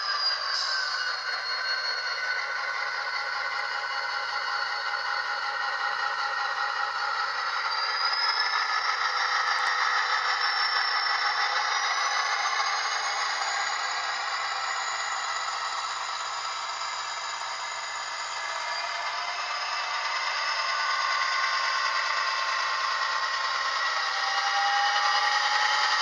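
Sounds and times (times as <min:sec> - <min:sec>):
model train wheels rattling on rails: 0:00.0 - 0:26.0.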